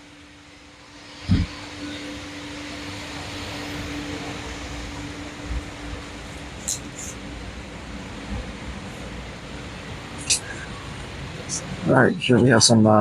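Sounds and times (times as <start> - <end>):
many printers whirring: 0.0 - 13.0.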